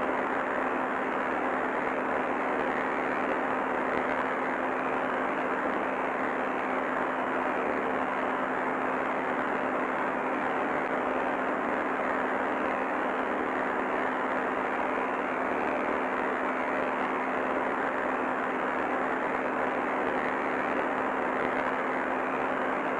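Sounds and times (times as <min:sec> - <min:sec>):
static hiss: 0:00.0 - 0:22.9.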